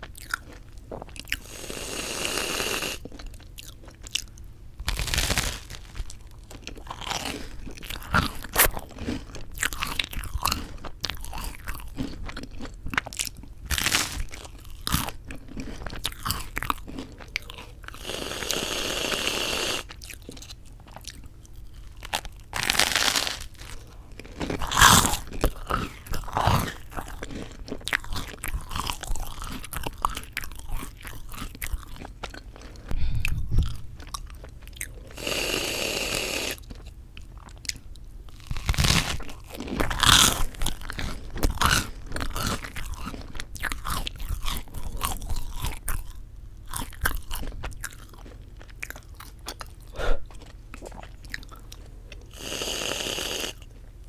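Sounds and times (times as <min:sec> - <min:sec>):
crunching toasted bread: 0:00.0 - 0:32.9, 0:33.7 - 0:54.0
chewing: 0:00.0 - 0:54.0.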